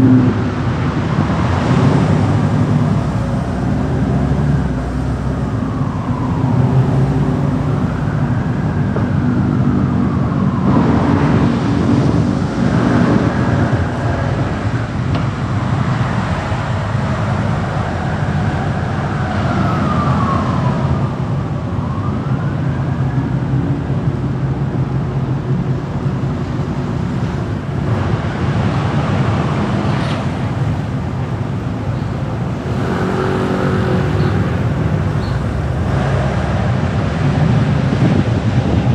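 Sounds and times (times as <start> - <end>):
car road and engine noise: 0.0 - 38.9
emergency siren wailing: 0.0 - 38.9.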